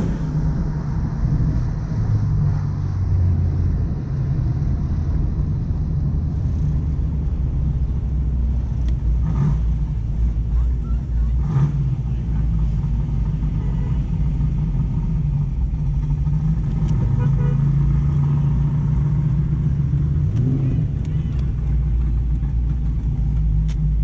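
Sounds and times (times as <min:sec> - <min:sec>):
car engine and exhaust cruising: 0:00.0 - 0:24.0.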